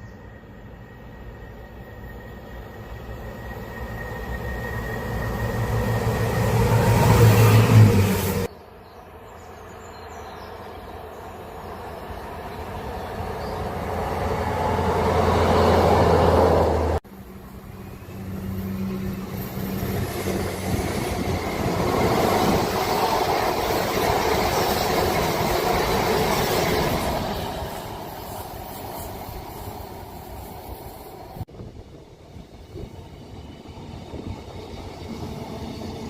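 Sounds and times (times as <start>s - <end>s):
train approaching and passing: 0.0s - 36.0s
train passing: 0.0s - 36.0s.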